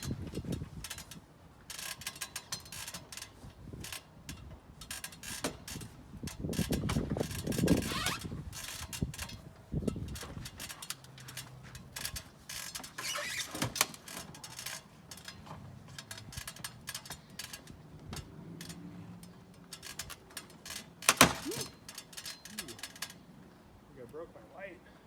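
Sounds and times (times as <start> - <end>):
air conditioner creaking and clanking: 0.0 - 23.4.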